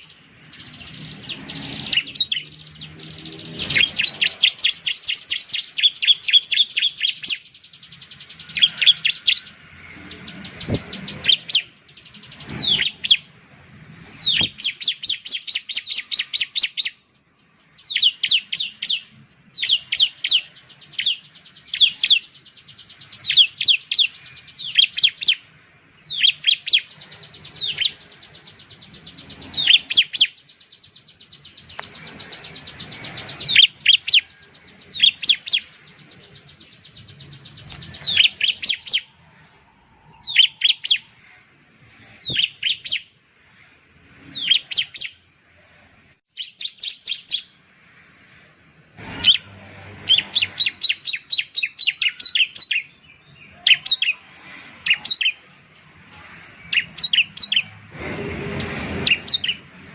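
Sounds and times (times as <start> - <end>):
bird chirping calls: 0.0 - 59.9.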